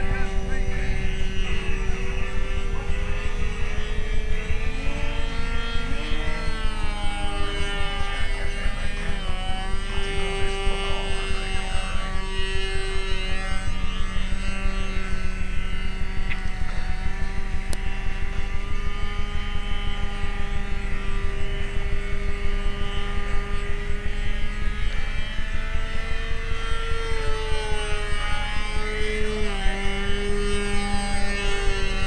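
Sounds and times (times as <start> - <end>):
model airplane engine running: 0.0 - 32.0.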